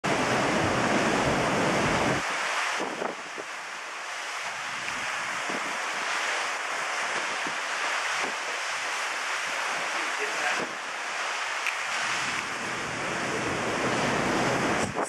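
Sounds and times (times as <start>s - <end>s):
wind rushing: 0.0s - 3.7s, 4.4s - 15.0s
water rushing: 0.0s - 15.0s.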